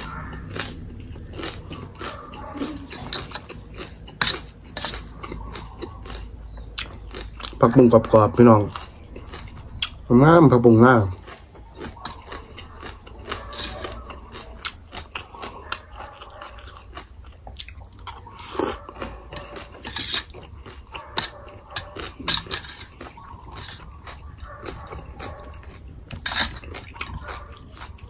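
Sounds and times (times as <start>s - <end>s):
chewing and crunching: 0.0s - 28.0s.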